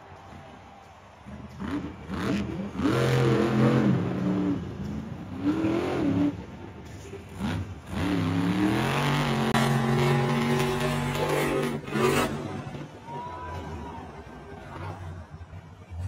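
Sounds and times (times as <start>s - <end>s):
truck engine revving: 1.3s - 15.3s.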